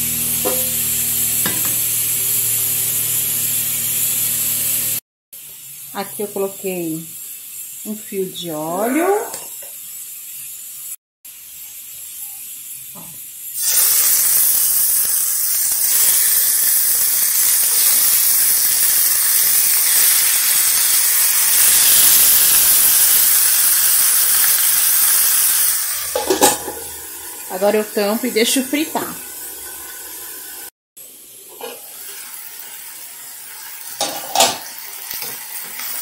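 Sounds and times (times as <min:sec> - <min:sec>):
meat sizzling in a frying pan: 0:00.0 - 0:36.0.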